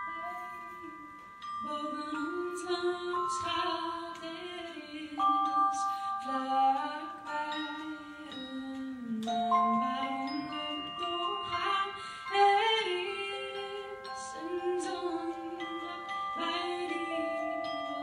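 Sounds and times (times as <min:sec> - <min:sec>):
ringing bell-like percussion: 0:00.0 - 0:18.0
woman singing slow phrases: 0:00.0 - 0:18.0.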